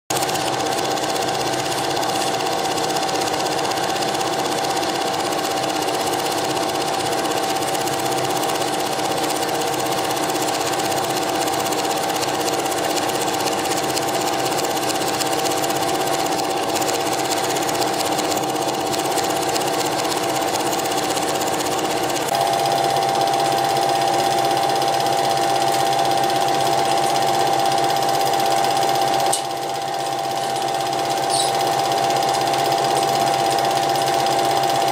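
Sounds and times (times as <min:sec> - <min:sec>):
film projector whirring: 0:00.1 - 0:34.9.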